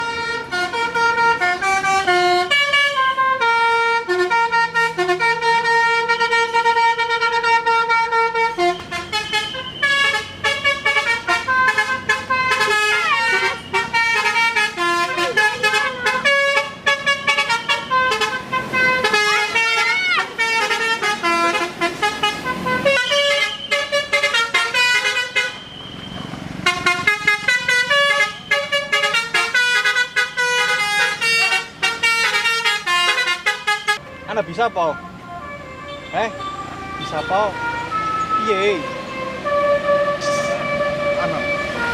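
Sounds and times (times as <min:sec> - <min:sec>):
bus air horn melody: 0:00.0 - 0:25.7, 0:26.6 - 0:41.9.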